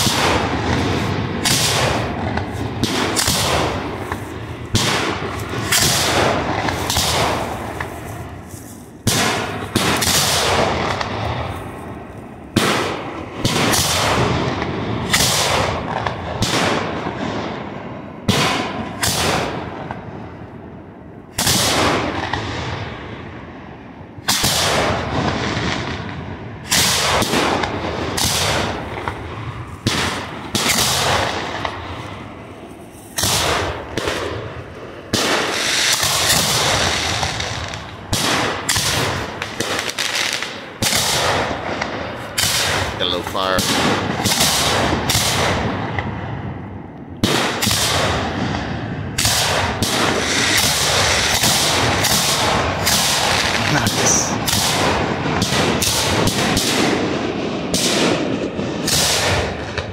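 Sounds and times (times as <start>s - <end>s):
fireworks booming: 0.0s - 59.9s.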